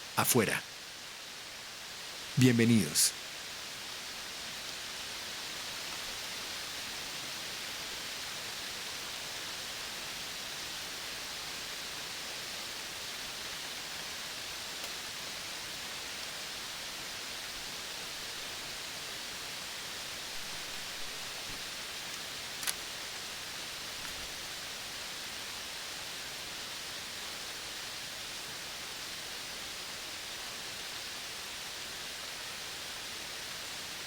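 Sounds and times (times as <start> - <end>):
outdoor nature ambience hiss: 0.0 - 34.0.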